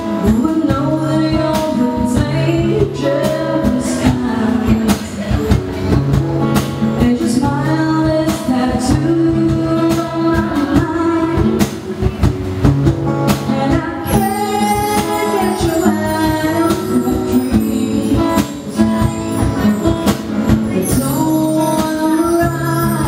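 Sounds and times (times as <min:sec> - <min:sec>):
woman singing: 0:00.0 - 0:06.0, 0:06.9 - 0:12.3, 0:13.3 - 0:23.0
cajon beat: 0:00.0 - 0:23.0
strummed acoustic guitar: 0:00.0 - 0:23.0.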